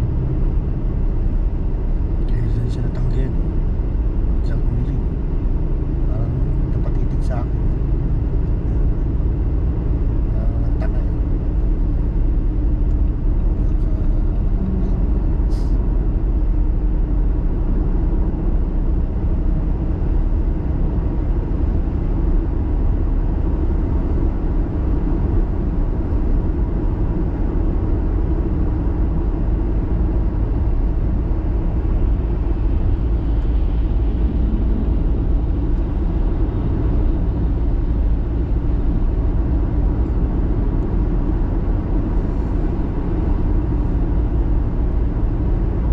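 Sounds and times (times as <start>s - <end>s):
car engine and tyre rumble: 0.0s - 45.9s.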